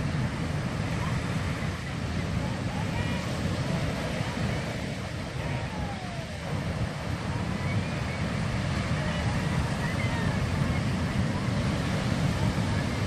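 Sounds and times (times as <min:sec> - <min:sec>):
surf breaking over rocks: 0:00.0 - 0:13.0.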